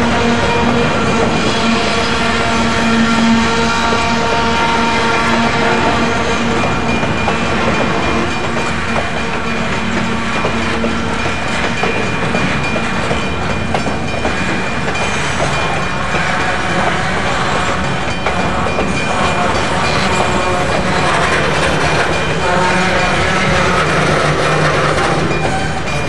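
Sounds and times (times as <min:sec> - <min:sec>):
train wheels rumbling and clacking: 0:00.0 - 0:26.0.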